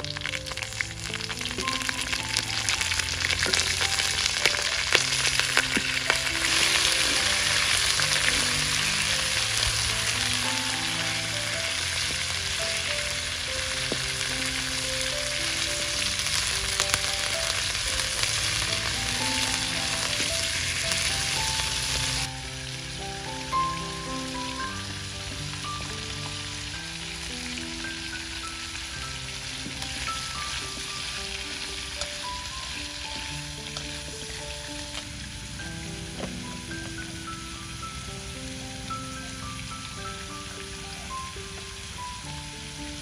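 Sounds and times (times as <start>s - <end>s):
food sizzling in a pan: 0.0s - 43.0s
oil crackling and popping: 0.0s - 43.0s
soft background music: 0.0s - 43.0s.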